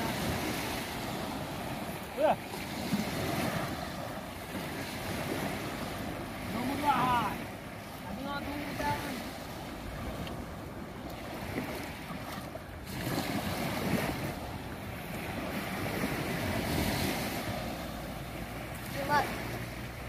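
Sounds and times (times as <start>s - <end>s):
waves washing onto shore: 0.0s - 20.0s.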